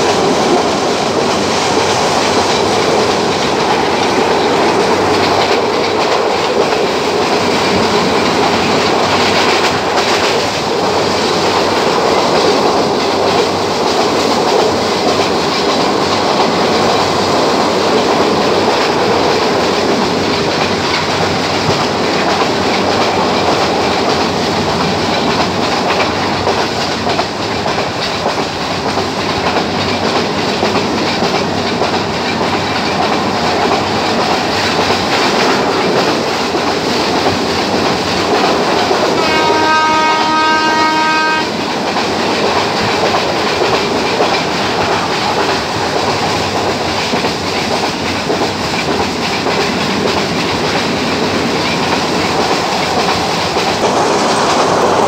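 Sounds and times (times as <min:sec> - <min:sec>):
train wheels running on rails: 0:00.0 - 0:55.0.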